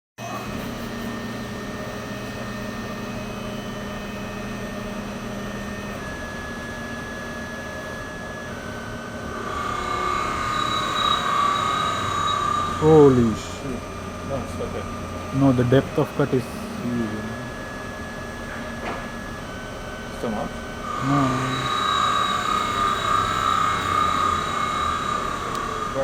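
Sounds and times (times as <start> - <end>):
high ringing cutting squeal: 0.2 - 26.0
lathe whining: 0.3 - 26.0.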